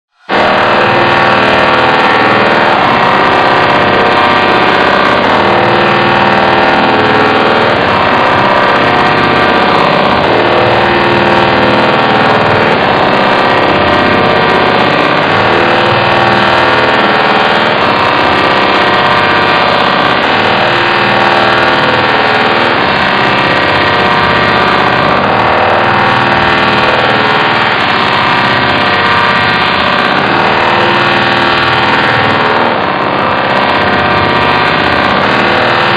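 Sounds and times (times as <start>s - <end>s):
buzzing robotic voice drone: 0.1s - 35.9s.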